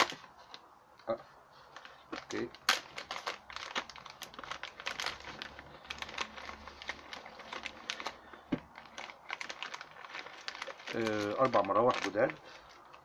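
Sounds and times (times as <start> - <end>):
plastic bags crinkling: 0.0 - 0.7, 1.5 - 13.0.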